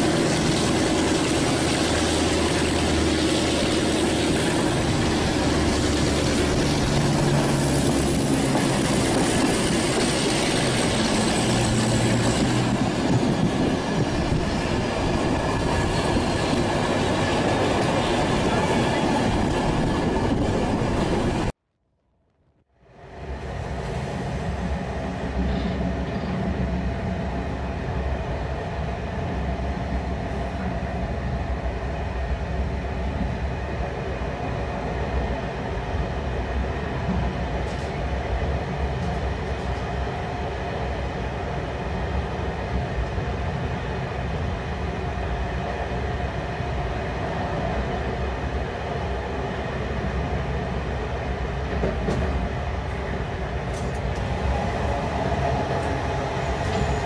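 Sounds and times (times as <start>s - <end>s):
passenger train running on rails: 0.0s - 21.5s, 22.8s - 57.0s.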